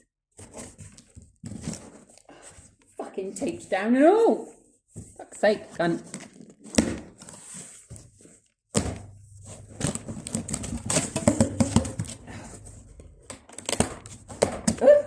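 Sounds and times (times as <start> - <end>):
cardboard and tape rustling: 0.4 - 3.7, 4.9 - 14.9.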